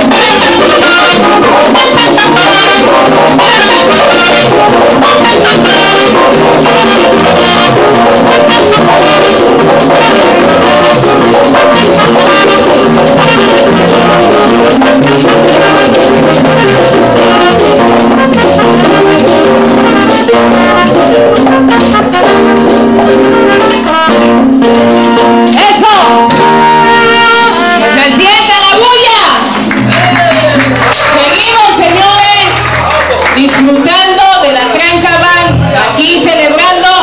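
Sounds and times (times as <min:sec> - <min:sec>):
trumpets playing melody: 0:00.0 - 0:35.9
latin dance band playing: 0:00.0 - 0:37.0.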